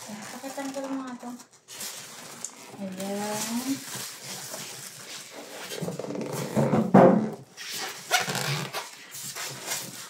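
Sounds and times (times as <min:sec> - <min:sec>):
plastic film rustling: 0:00.0 - 0:06.7, 0:07.4 - 0:10.0
styrofoam rubbing and squeaking: 0:00.0 - 0:10.0.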